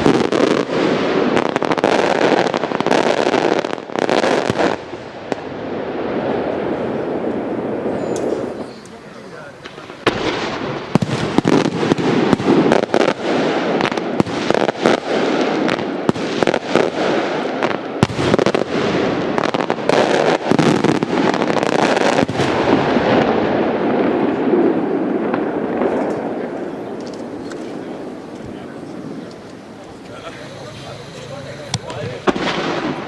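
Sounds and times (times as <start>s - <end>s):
firework crackling pops: 0.0s - 33.0s.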